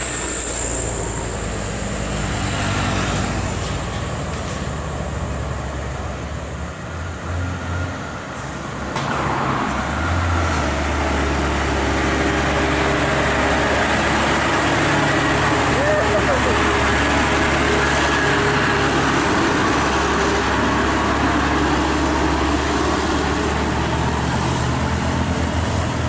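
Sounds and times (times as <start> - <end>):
diesel truck engine running: 0.0 - 26.0
tyre and road noise: 0.0 - 26.0.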